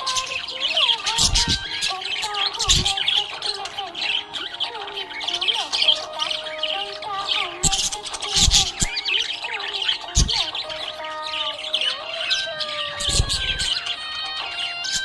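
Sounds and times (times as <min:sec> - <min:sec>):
budgerigars chirping: 0:00.0 - 0:15.0
loud sharp bird calls: 0:00.0 - 0:15.0.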